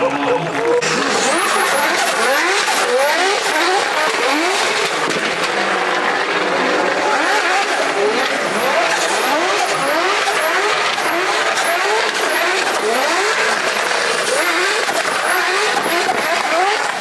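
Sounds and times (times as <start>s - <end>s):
car engine revving hard: 0.0s - 17.0s
tyre noise from spinning wheels: 0.0s - 17.0s.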